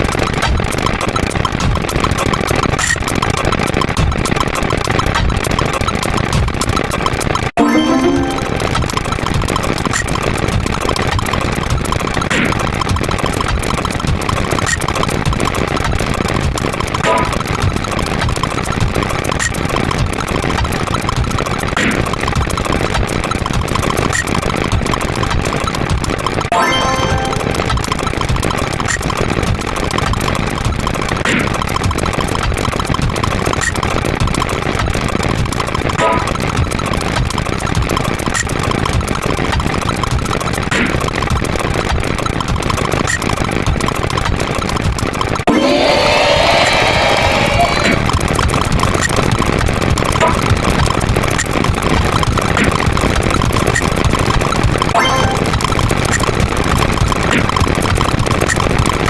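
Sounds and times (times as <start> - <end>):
rapid digital sound effect clicks: 0.0 - 59.0.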